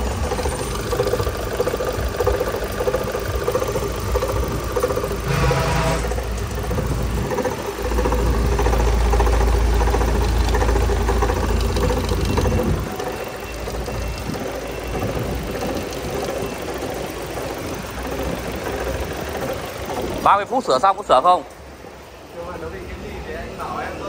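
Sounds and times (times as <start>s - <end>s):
engine whirring and knocking: 0.0s - 24.0s.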